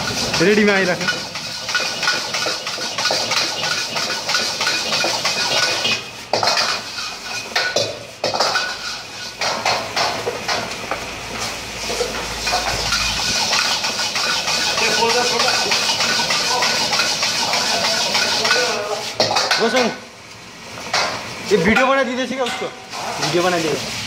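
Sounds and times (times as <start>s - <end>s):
hot wok hissing: 0.0s - 19.9s, 20.5s - 24.0s
metal utensils clanking on wok: 0.1s - 10.8s, 11.8s - 20.0s, 20.9s - 23.4s.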